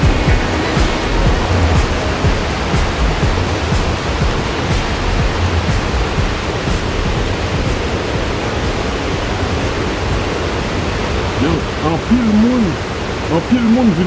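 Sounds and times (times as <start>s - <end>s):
river rapids rushing over rocks: 0.0s - 14.0s.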